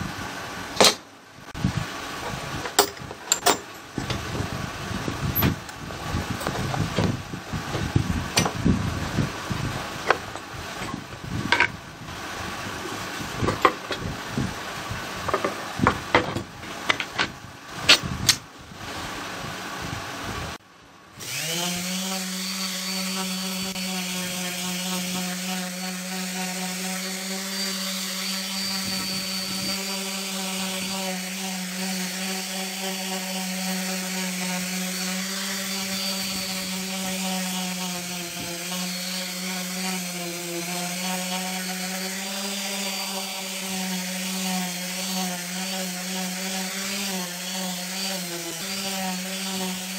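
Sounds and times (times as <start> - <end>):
orbital sander humming: 4.0 - 16.1, 21.2 - 49.9.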